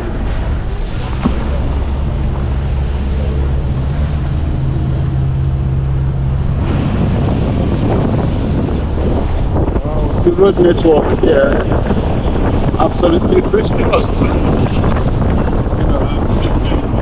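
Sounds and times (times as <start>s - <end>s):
road and wind noise: 0.0s - 17.0s
vehicle engine hum: 0.0s - 17.0s.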